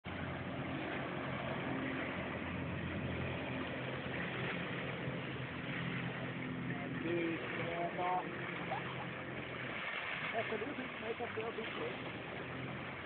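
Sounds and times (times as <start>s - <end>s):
jet ski engine droning: 0.0s - 13.0s.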